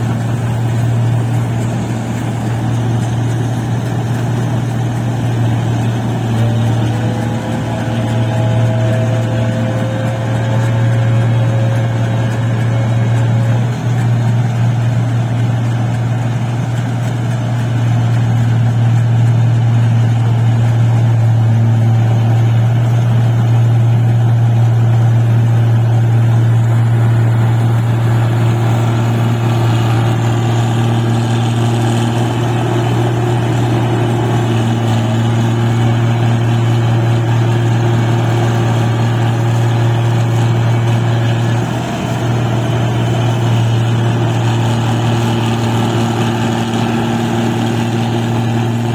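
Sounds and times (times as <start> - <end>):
harvester engine droning: 0.0 - 48.9.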